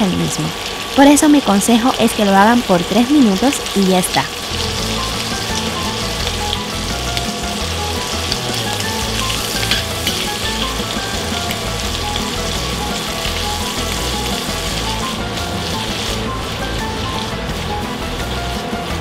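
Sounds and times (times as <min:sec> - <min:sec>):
shrimp sizzling in a skillet: 0:00.1 - 0:19.0.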